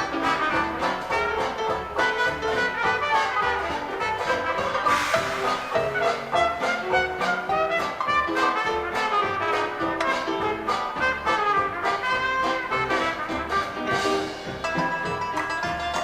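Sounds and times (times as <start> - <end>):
trumpets and trombones: 0.0 - 15.9
jazz dance orchestra playing: 0.0 - 16.0.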